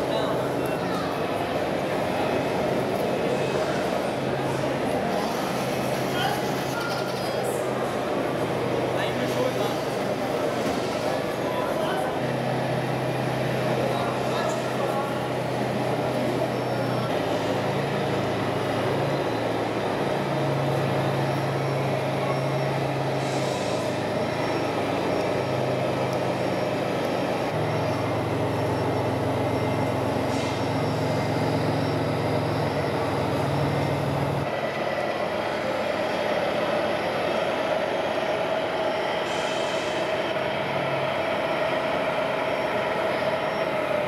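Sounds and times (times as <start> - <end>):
low engine-like hum: 0.0 - 44.0.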